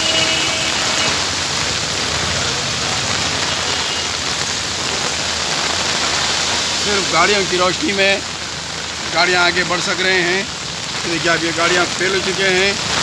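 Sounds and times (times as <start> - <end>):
heavy rain pouring on street: 0.0 - 13.0.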